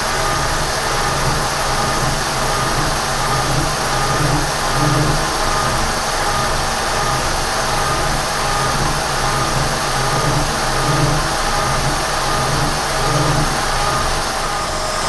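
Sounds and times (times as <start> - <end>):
milling machine cutting: 0.0 - 15.0.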